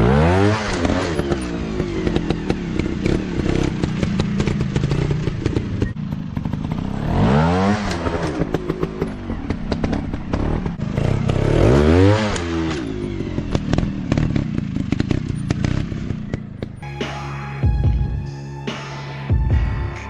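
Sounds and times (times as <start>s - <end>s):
dirt bike engine revving: 0.0s - 17.4s.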